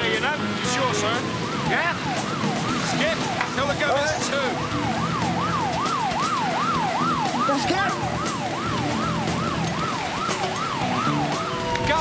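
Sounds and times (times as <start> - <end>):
siren yelping: 0.0 - 12.0.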